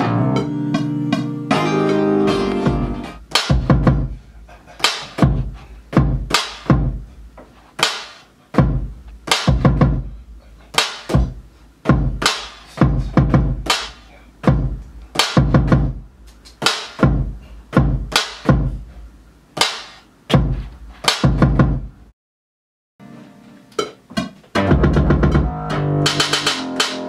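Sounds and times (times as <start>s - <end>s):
drum beat with bass: 2.3s - 22.1s, 23.8s - 27.0s.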